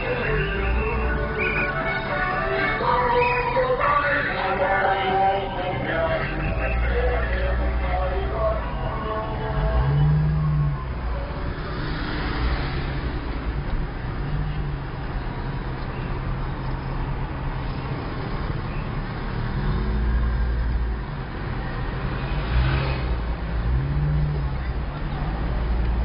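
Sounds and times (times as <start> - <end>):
car engine and tyre noise: 0.0 - 26.0.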